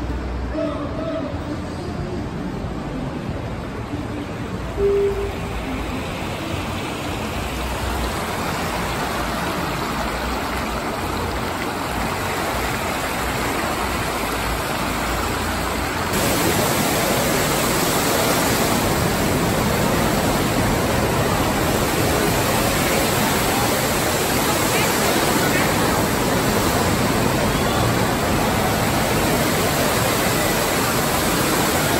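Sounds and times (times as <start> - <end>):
rushing waterfall: 0.0 - 31.9.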